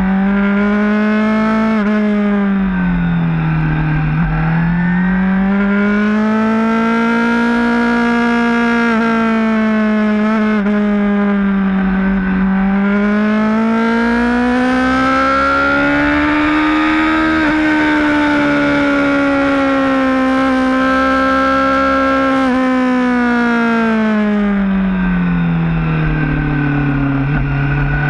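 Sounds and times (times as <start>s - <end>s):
motorcycle engine revving high: 0.0s - 28.0s.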